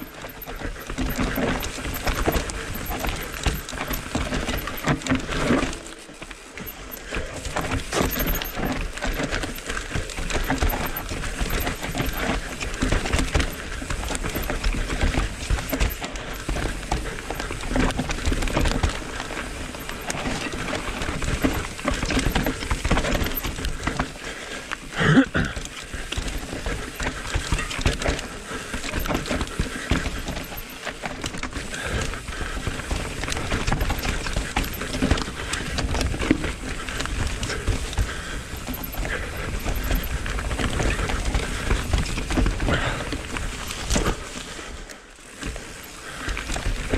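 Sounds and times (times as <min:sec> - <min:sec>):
bike frame and chain rattling: 0:00.0 - 0:46.9
bike tyres rolling over dirt: 0:00.0 - 0:46.9.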